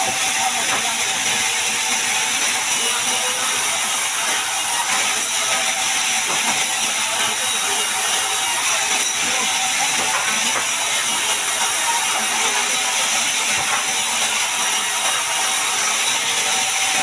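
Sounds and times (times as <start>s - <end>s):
bandsaw cutting a log: 0.0s - 17.0s.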